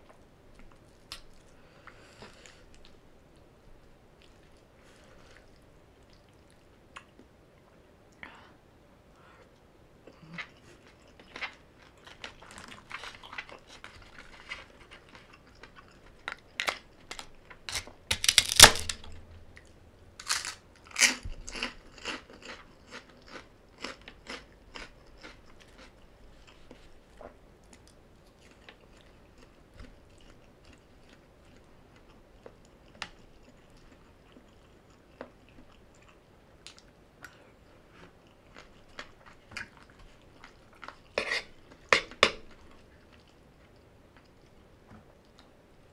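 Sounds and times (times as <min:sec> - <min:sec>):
chewing and crunching crisp food: 0:04.1 - 0:07.3, 0:10.0 - 0:45.6.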